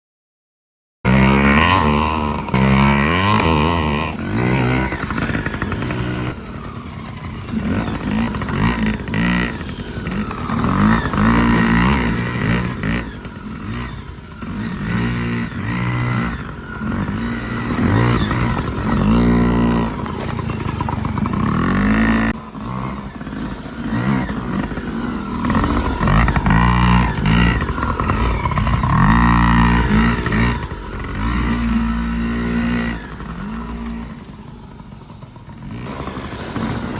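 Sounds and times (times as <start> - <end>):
dirt bike engines revving: 1.1 - 36.9.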